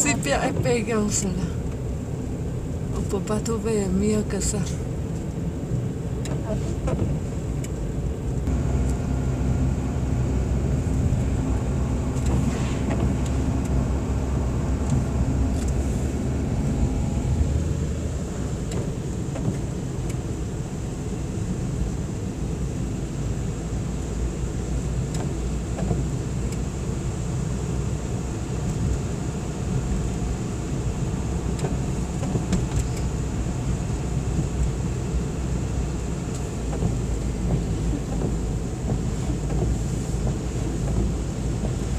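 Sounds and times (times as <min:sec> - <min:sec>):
car engine hum: 0:00.0 - 0:41.9
road rumble: 0:00.0 - 0:41.9.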